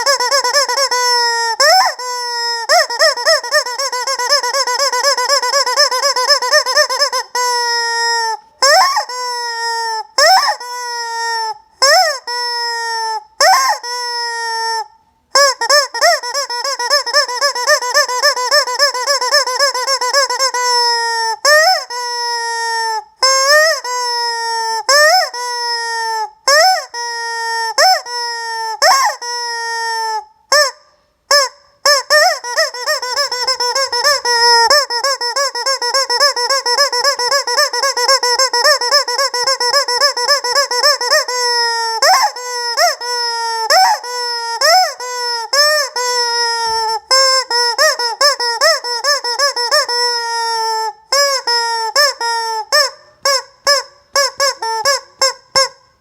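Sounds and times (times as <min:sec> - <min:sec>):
rubber chicken toy honking: 0:00.0 - 0:55.9.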